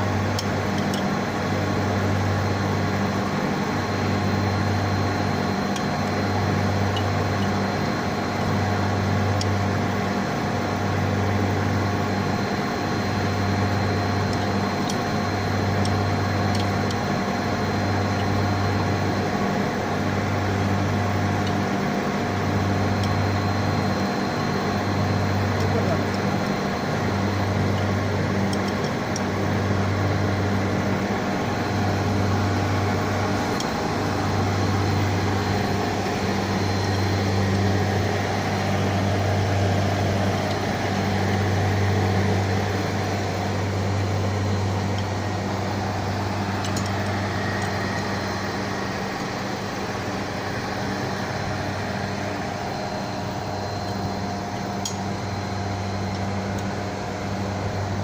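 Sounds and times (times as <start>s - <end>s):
electric machinery humming: 0.0s - 58.0s.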